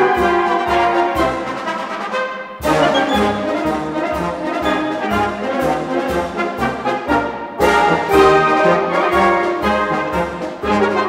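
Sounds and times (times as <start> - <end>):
military brass band playing: 0.0 - 11.0.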